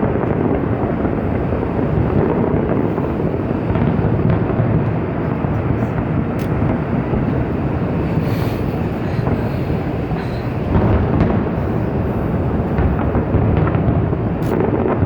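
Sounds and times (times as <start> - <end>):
firework shell bursts rumbling: 0.0 - 15.0
sharp firework crack: 0.0 - 15.0.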